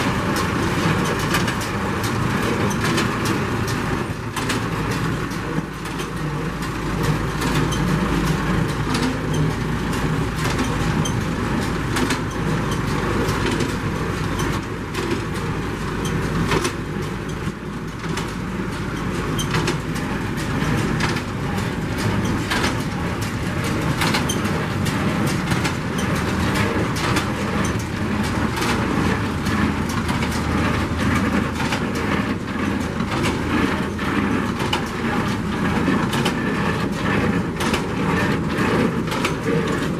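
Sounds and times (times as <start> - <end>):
baler mechanical drone: 0.0 - 39.9
sharp clicks and knocks: 7.0 - 13.8, 14.4 - 39.9.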